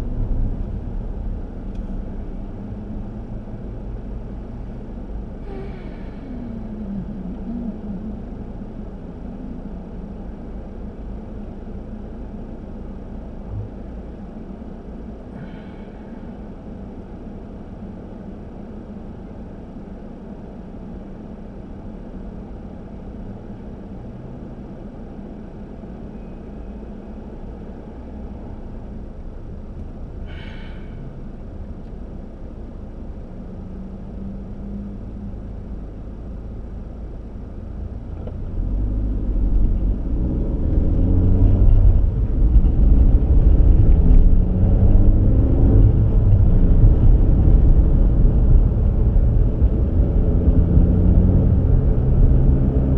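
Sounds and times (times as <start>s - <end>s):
car rumbling in motion: 0.0s - 52.9s.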